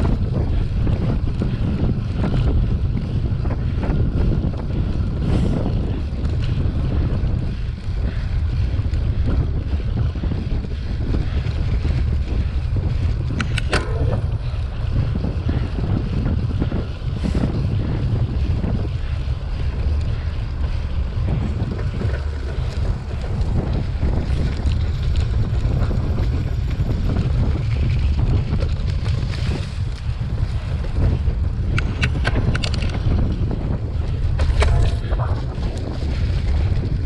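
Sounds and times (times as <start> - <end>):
bicycle rattling and knocking: 0.0 - 37.0
wind buffeting microphone: 0.0 - 37.0.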